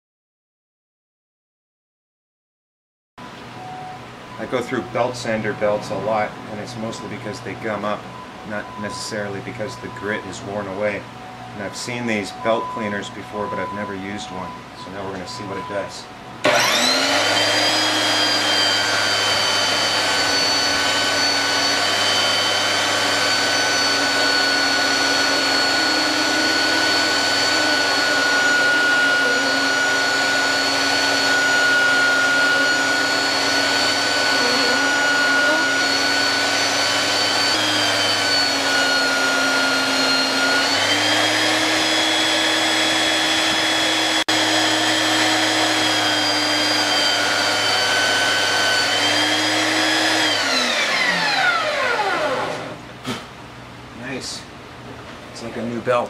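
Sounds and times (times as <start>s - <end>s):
belt sander motor whine: 4.4s - 52.9s.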